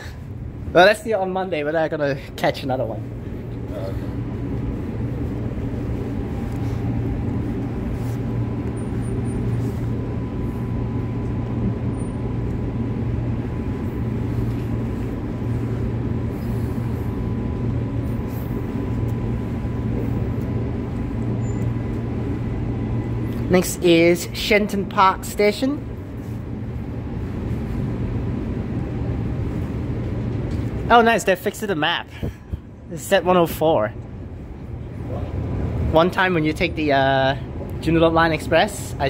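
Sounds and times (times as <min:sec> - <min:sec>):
train interior rumble and hum: 0:00.0 - 0:39.0.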